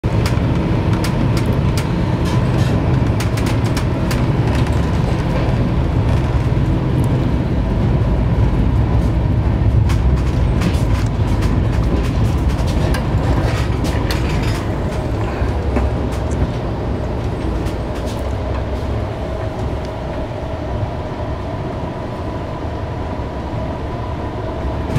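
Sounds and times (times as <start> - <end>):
train wheels rumbling on track: 0.0 - 24.9.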